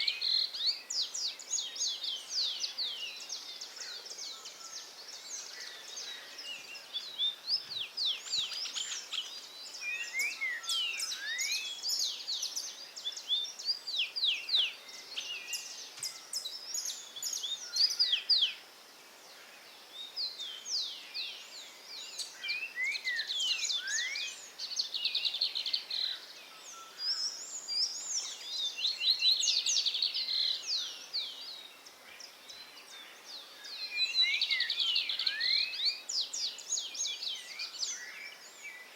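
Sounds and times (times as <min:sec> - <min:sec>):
faint background hiss: 0:00.0 - 0:38.9
songbirds singing: 0:00.0 - 0:38.9.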